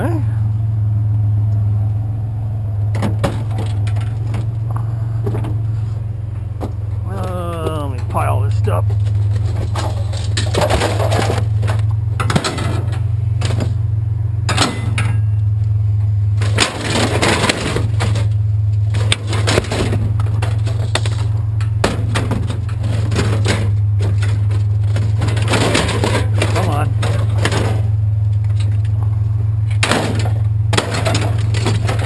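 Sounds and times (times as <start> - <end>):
steady low hum: 0.0 - 32.0
scrap metal clanking: 2.9 - 13.8, 14.4 - 15.4, 16.3 - 32.0.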